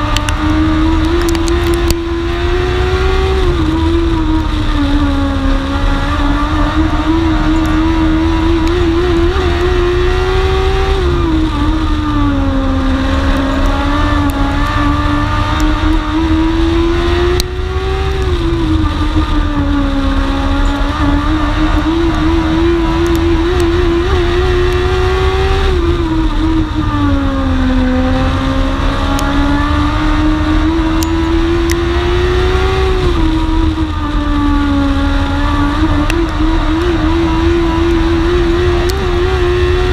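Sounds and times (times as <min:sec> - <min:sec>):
heavy low rumble: 0:00.0 - 0:39.9
race car engine revving: 0:00.0 - 0:39.9.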